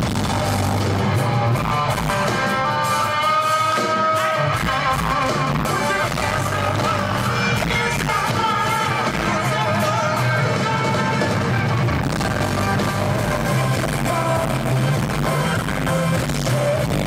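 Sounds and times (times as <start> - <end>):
rock band playing live: 0.0 - 17.0
singer holding long notes: 0.0 - 17.0.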